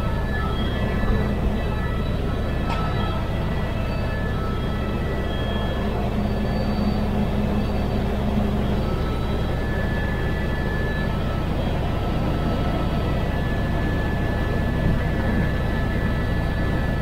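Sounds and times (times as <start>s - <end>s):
helicopter drone in flight: 0.0s - 17.0s.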